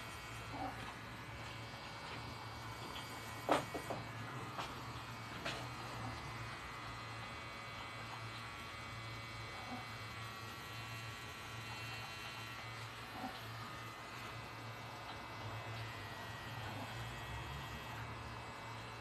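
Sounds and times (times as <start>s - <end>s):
tattoo machine buzzing: 0.0s - 19.0s.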